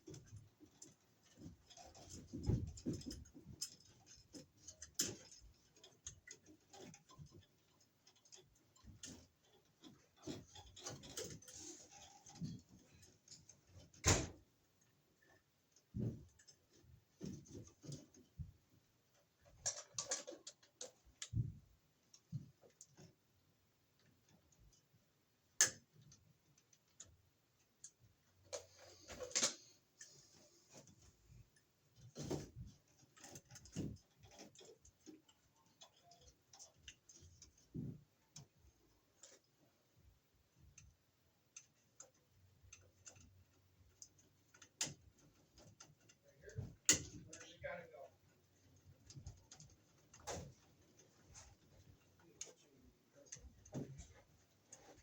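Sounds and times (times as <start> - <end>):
hands working small parts and tools: 0.0 - 55.0.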